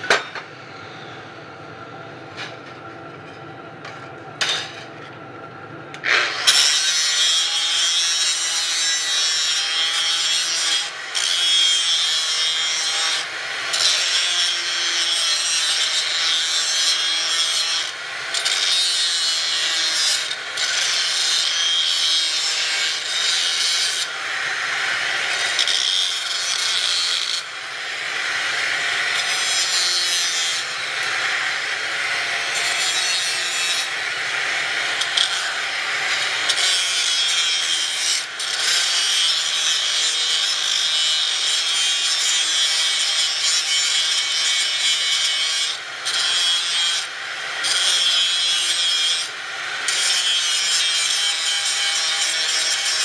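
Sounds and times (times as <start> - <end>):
grinder grinding steel: 5.9 - 53.0.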